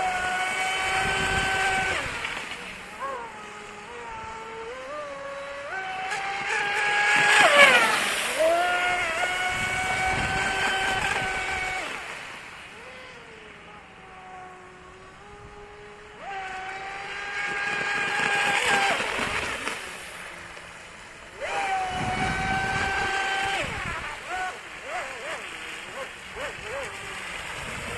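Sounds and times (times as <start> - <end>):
model speed boat motor whine: 0.0 - 27.9.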